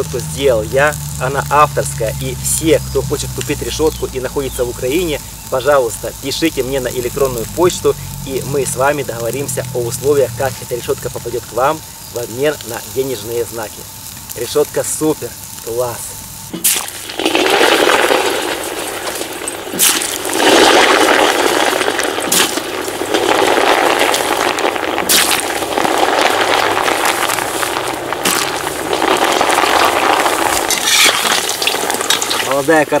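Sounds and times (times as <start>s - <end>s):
potatoes sizzling in hot fat: 0.0s - 33.0s
sharp cracks from frying fat: 0.0s - 33.0s.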